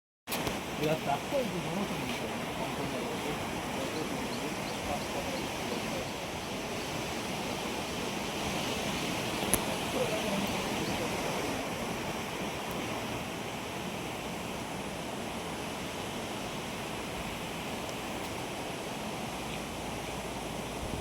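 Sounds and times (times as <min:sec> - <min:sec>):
flowing water rushing: 0:00.3 - 0:21.0.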